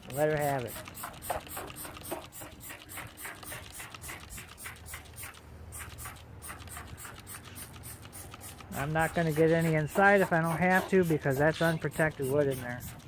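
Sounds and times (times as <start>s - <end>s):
spray bottle squirting: 0.4s - 13.0s.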